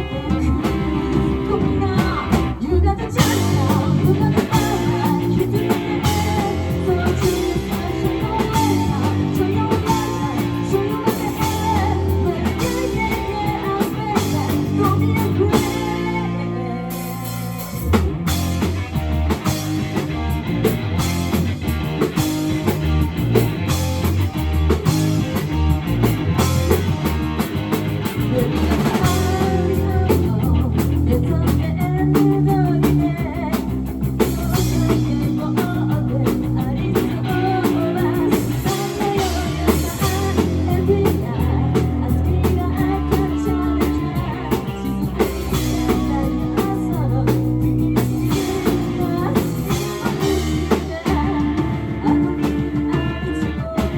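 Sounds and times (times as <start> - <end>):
person singing: 0.0 - 18.7, 28.0 - 53.9
bass guitar: 0.0 - 53.9
drum kit: 0.0 - 53.9
electric guitar: 0.0 - 53.9.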